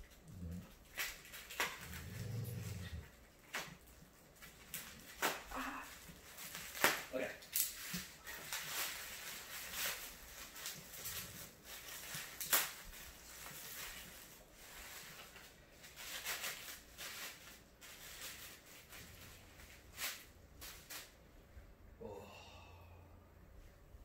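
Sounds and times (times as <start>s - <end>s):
bubble wrap crinkling: 0.0s - 21.2s.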